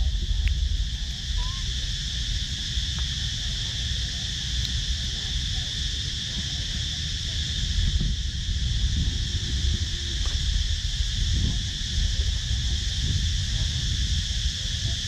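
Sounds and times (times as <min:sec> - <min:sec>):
insects droning in trees: 0:00.0 - 0:15.0
low rumble: 0:00.0 - 0:15.0.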